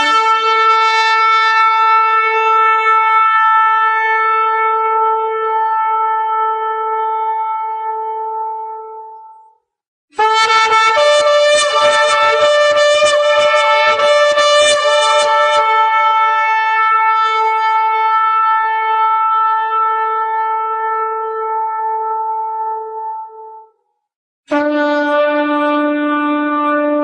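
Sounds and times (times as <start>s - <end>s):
ram's horn blast: 0.0s - 9.0s, 10.2s - 23.6s.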